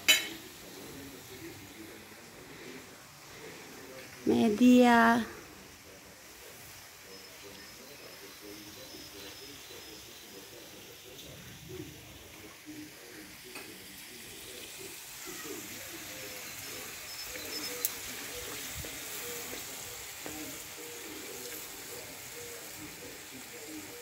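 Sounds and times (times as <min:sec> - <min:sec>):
meat sizzling on a grill: 0:00.0 - 0:24.0.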